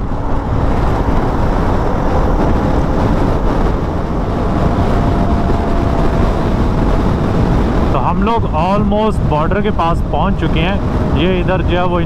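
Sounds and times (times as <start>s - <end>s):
motorcycle riding: 0.0s - 12.0s
wind noise: 0.0s - 12.0s.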